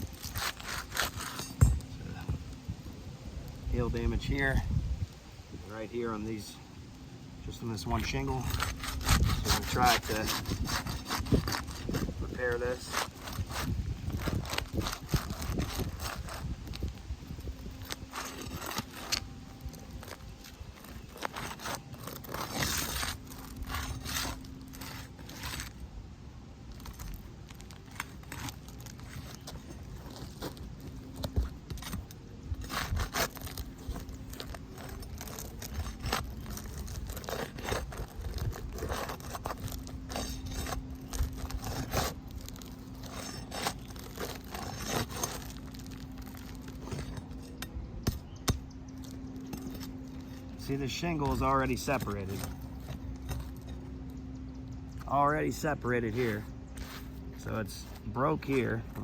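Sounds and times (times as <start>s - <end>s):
roof shingle scraping and crackling: 0.0s - 4.7s, 7.4s - 25.9s, 26.6s - 59.0s.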